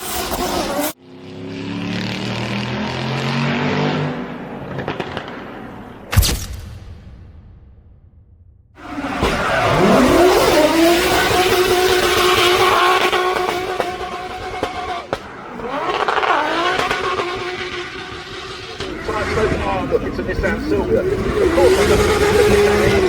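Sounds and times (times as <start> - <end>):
racing car engine revving: 0.0 - 5.4, 8.8 - 23.0.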